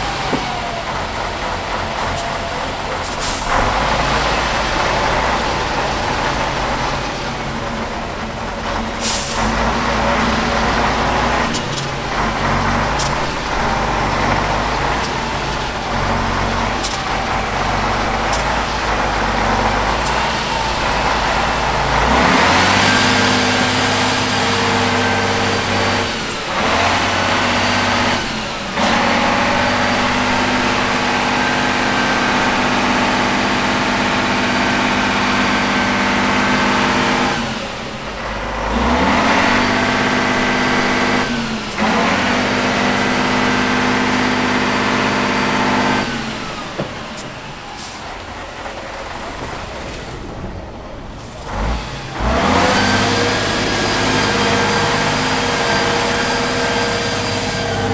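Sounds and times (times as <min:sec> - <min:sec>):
diesel truck engine under load: 0:00.0 - 0:57.9.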